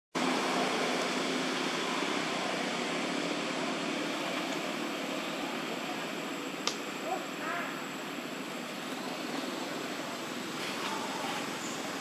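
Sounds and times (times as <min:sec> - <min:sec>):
steady background noise: 0:00.2 - 0:12.0.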